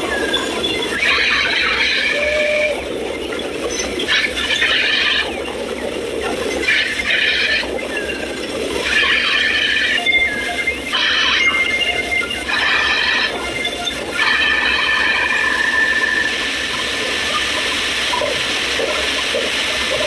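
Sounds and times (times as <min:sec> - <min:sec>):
sawmill machinery squealing: 0:00.0 - 0:19.1
machinery running noise: 0:00.0 - 0:20.0.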